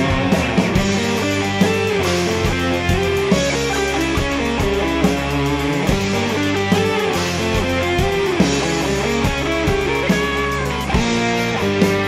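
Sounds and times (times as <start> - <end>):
bass: 0.0 - 12.0
electric guitar melody: 0.0 - 12.0
keyboards: 0.0 - 12.0
steady drum beat: 0.0 - 12.0.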